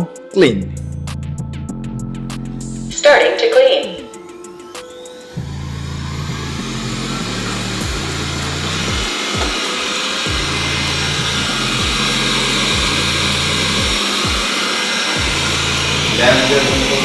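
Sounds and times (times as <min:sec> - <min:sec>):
background music: 0:00.0 - 0:17.0
robot vacuum cleaner whirring: 0:03.0 - 0:17.0.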